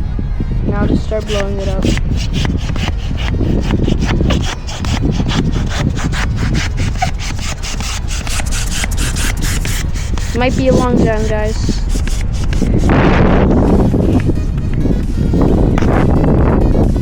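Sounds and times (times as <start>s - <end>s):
balloon pump rasping air strokes: 0.8s - 15.4s.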